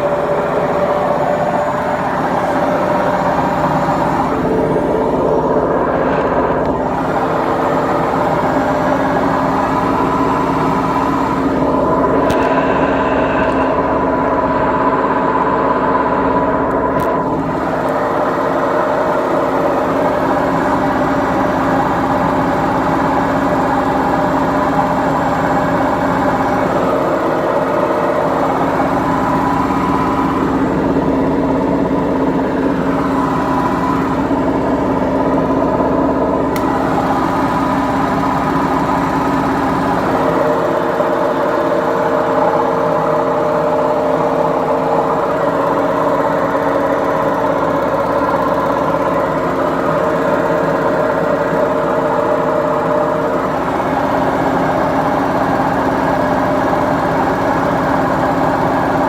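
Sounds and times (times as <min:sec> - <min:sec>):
washing machine drone: 0:00.0 - 0:59.0.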